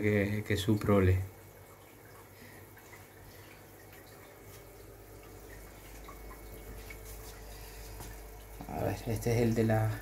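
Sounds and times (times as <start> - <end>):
aquarium filter hum: 0.0 - 10.0
water trickling and dripping: 0.0 - 10.0.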